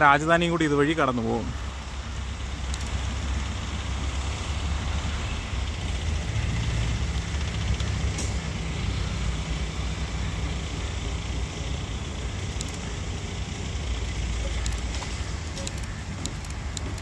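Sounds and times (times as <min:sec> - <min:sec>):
train rumbling slowly: 0:00.0 - 0:17.0.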